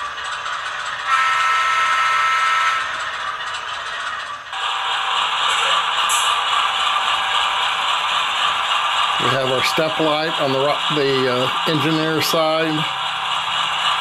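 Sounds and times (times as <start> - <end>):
diesel idle from small speaker: 0.0 - 13.0.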